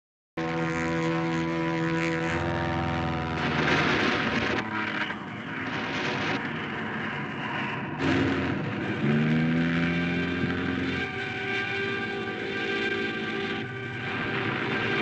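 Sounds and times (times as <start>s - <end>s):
propeller plane engine droning: 0.4s - 15.0s.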